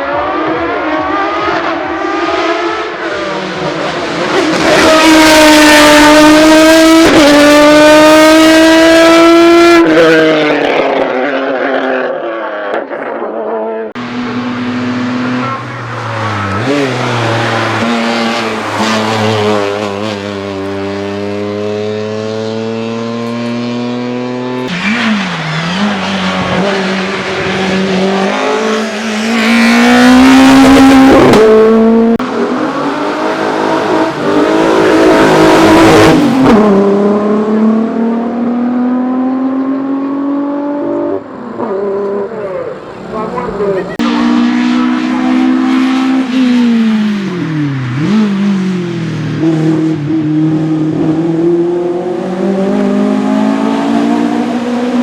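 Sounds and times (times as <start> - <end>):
racing car engines accelerating: 0.0 - 55.0.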